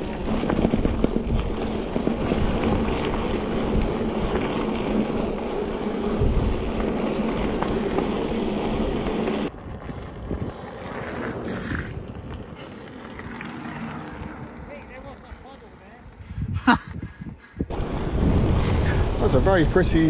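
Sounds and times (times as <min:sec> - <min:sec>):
wind buffeting microphone: 0:00.0 - 0:12.8, 0:13.8 - 0:20.0
bicycle tyre hum: 0:00.0 - 0:20.0.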